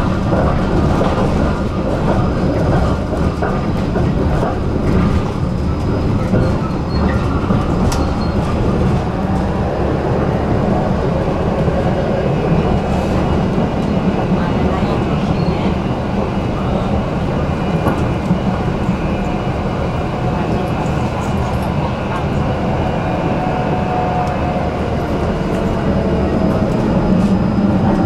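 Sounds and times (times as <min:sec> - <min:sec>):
tram wheels rumbling on rails: 0:00.0 - 0:28.0.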